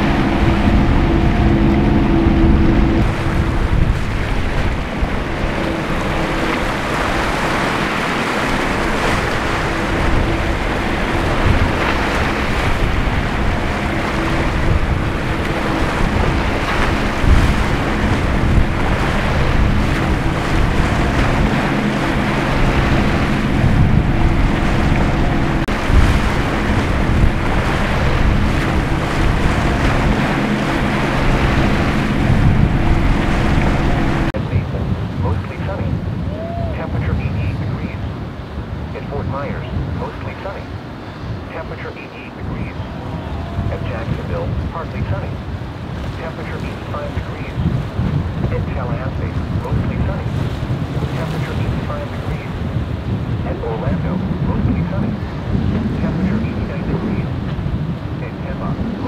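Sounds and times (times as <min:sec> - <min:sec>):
boat engine humming: 0:00.0 - 0:59.0
waves breaking: 0:00.0 - 0:59.0
wind buffeting microphone: 0:00.0 - 0:59.0.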